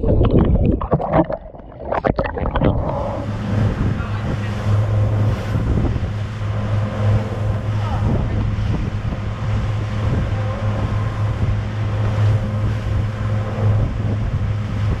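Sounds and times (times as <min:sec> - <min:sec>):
rushing wake water: 0:00.0 - 0:15.0
wind buffeting microphone: 0:00.0 - 0:15.0
outboard motors droning: 0:01.9 - 0:15.0.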